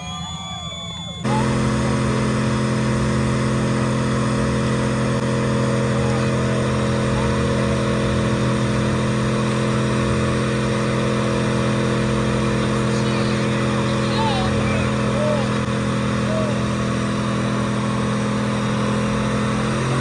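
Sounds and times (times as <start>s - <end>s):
engine at high revs: 1.2s - 20.0s.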